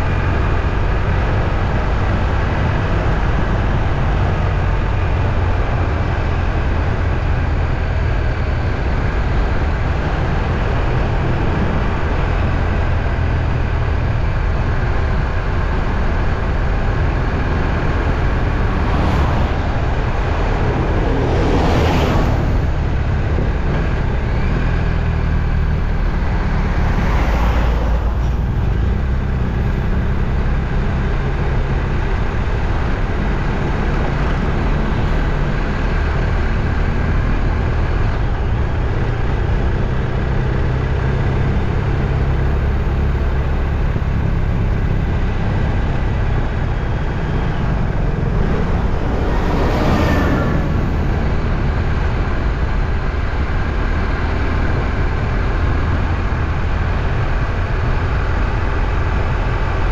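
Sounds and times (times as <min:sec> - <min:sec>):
vehicle road noise rumbling: 0:00.0 - 0:59.9.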